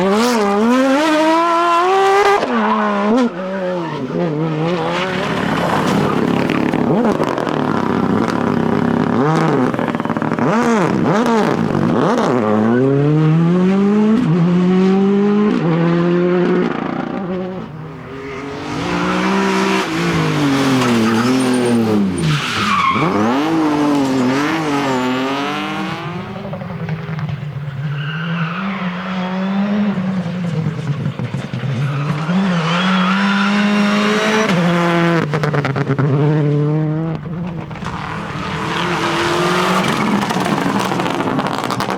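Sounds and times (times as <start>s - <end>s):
tyres skidding: 0.0s - 13.7s, 16.0s - 41.9s
cars sweeping past: 0.0s - 41.9s
rally car engines revving: 0.0s - 41.9s.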